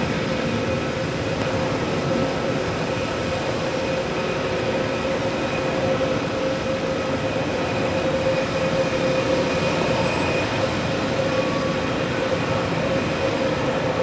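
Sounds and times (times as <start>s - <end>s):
jet engines running with whine: 0.0s - 14.0s.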